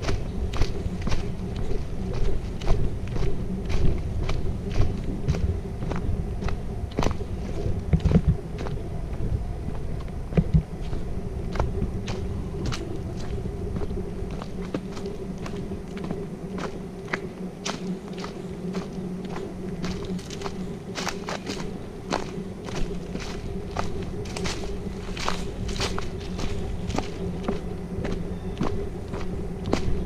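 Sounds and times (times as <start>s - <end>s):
crunching footsteps: 0.0s - 30.0s
steady low hum: 0.0s - 30.0s.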